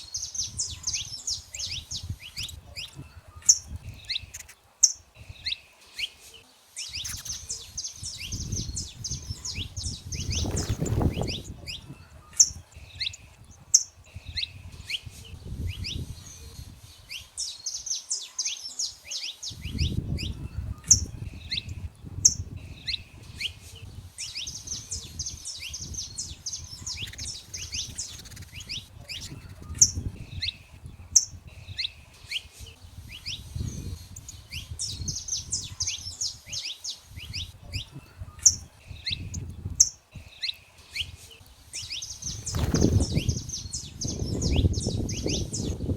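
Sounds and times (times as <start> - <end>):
finches singing: 0.0 - 45.9.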